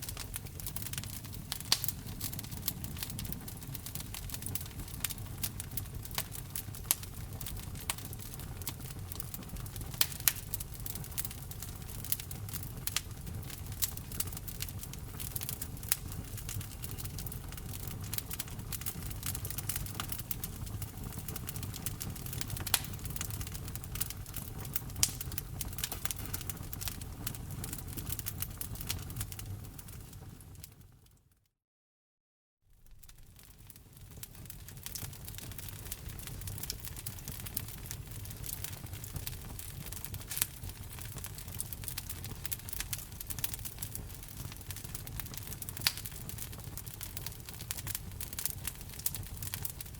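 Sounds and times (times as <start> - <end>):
wood fire crackling: 0.0 - 31.2, 32.8 - 49.9.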